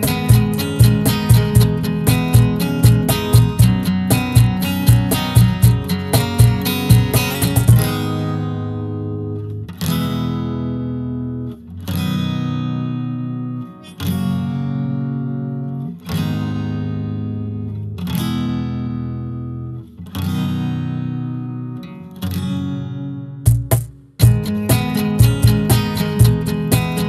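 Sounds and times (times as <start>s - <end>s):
acoustic guitar strums: 0.0s - 27.0s.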